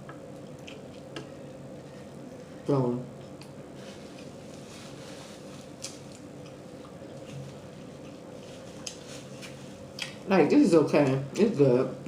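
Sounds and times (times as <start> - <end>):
person chewing food: 0.0 - 10.2
steady low hum: 0.0 - 12.0.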